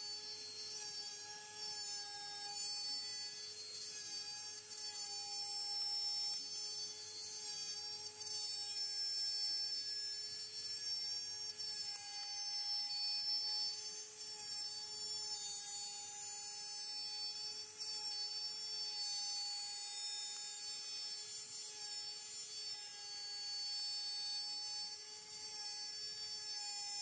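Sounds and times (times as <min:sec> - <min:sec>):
router spindle whining: 0:00.0 - 0:27.0.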